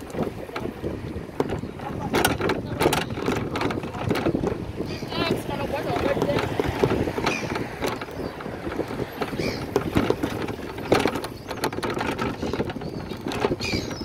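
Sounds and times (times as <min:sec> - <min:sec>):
short rattles and clicks: 0:00.0 - 0:14.0
wind buffeting microphone: 0:00.0 - 0:14.0.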